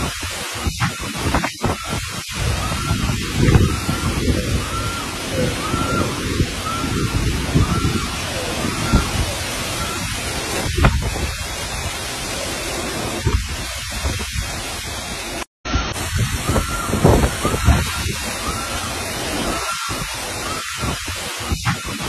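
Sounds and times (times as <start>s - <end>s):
heavy rain: 0.0s - 22.0s
strong wind: 0.0s - 22.0s.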